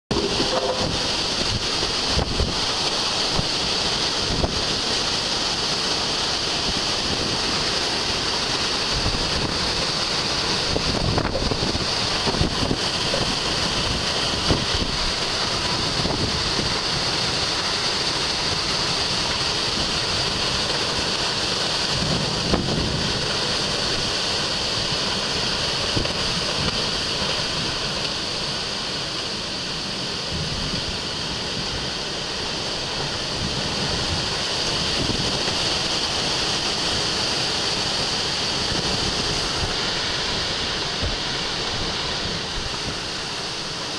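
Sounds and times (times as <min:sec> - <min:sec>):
heavy rain hissing: 0:00.0 - 0:43.9
wind gusts on microphone: 0:00.1 - 0:05.8, 0:08.8 - 0:17.7, 0:18.3 - 0:28.0, 0:30.2 - 0:43.9.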